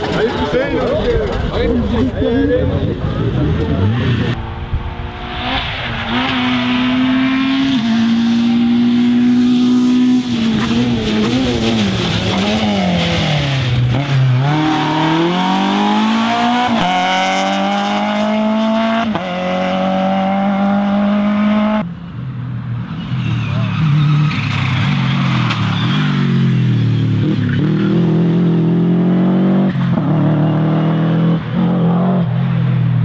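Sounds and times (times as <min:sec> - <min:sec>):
rally car engine revving: 0:00.0 - 0:21.9, 0:23.2 - 0:32.7.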